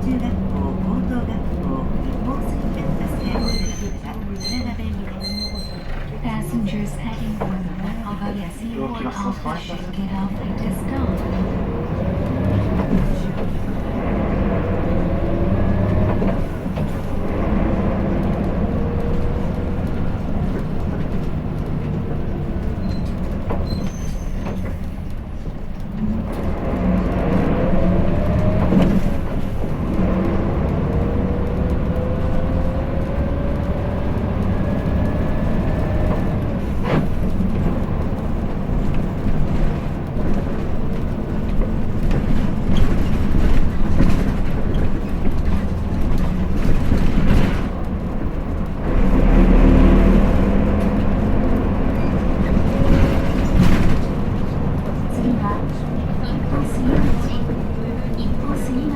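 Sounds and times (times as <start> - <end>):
bus engine rumbling and whining: 0.0 - 58.9.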